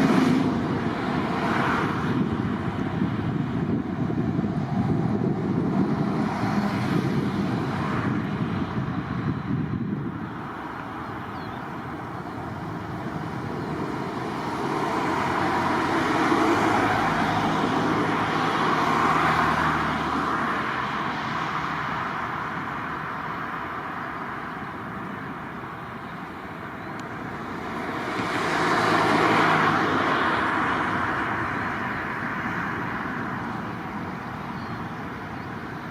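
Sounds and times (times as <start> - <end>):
outdoor background noise: 0.0 - 35.9
vehicles passing by: 0.0 - 35.9.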